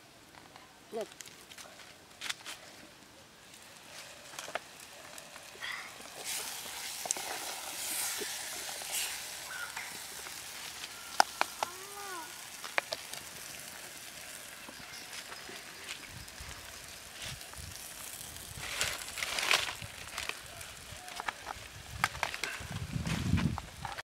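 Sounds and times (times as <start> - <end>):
vegetables sizzling in a pot: 3.4 - 24.0.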